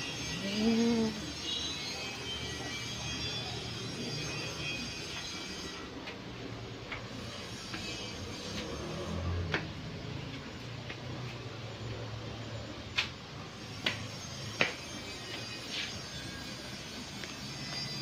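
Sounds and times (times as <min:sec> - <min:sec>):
footsteps on tiled stairs: 0:03.4 - 0:18.0.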